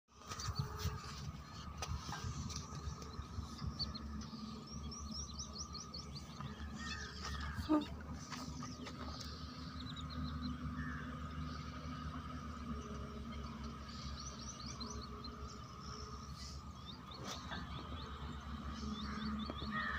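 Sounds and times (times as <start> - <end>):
small birds chirping: 0.1 - 19.9
low rumble: 0.2 - 19.8.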